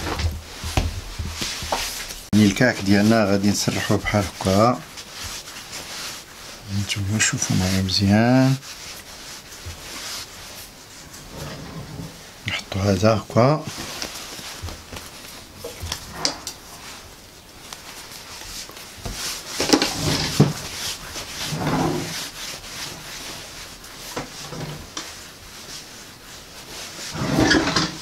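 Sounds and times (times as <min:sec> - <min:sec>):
hands rubbing dough on stone: 0:00.0 - 0:11.4, 0:12.1 - 0:27.2.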